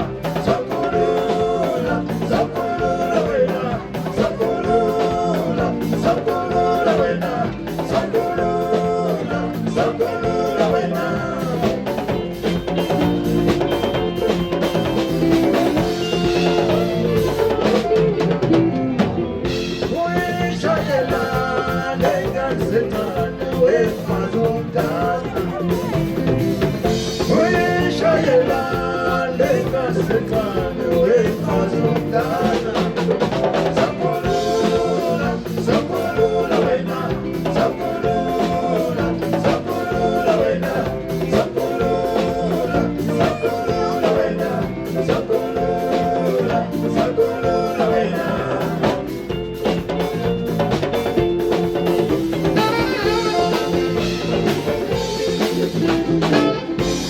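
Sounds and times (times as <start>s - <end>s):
drum kit beat: 0.0s - 57.0s
voices singing: 0.0s - 57.0s.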